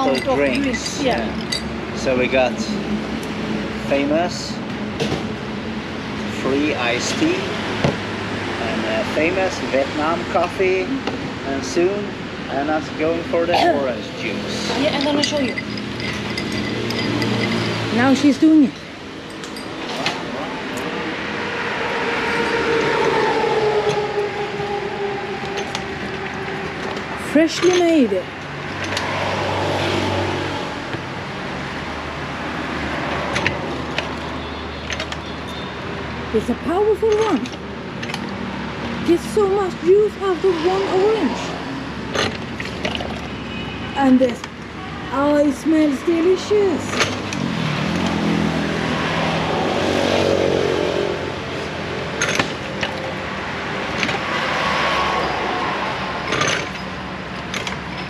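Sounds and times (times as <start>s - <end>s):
traffic noise: 0.0s - 58.0s.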